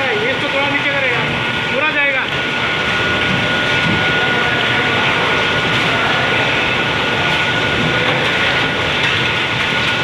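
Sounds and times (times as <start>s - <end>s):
processing machine running: 0.0s - 10.0s.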